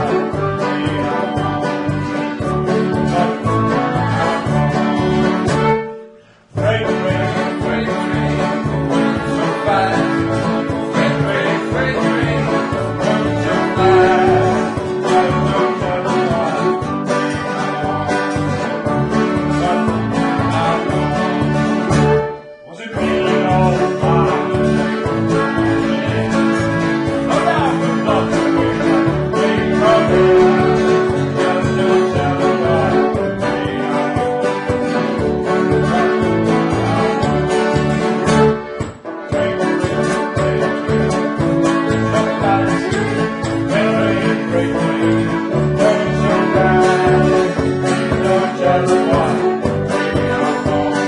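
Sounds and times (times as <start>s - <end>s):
country music on plucked strings: 0.0s - 51.0s
person singing: 0.0s - 51.0s.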